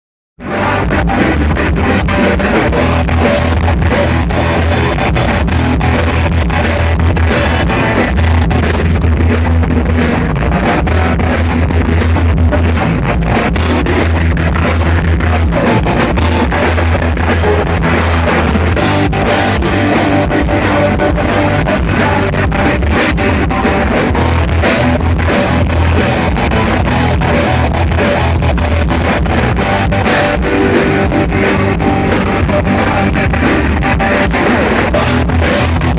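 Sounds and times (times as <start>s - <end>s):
bass guitar: 0.4s - 35.9s
drum kit: 0.4s - 35.9s
electric guitar: 0.4s - 35.9s.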